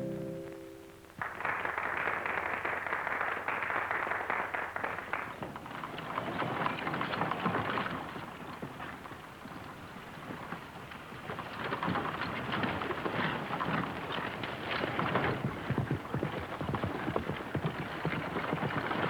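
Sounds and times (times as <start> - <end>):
horses galloping hoofbeats: 2.3 - 19.0.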